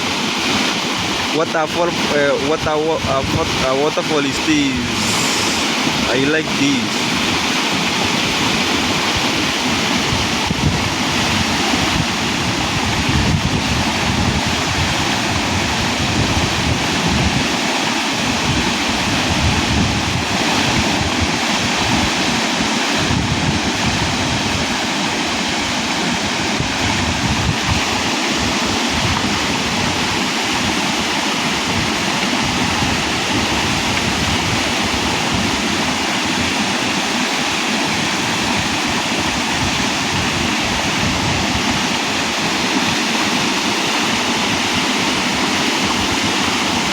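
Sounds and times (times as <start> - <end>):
waterfall rushing: 0.0 - 46.9
wind buffeting microphone: 0.0 - 46.9.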